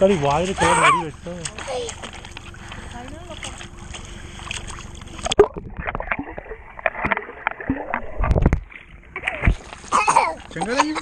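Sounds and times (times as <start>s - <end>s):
low underwater rumble: 0.0s - 10.5s
muffled underwater sloshing: 0.0s - 11.0s
water splashing: 0.0s - 11.0s.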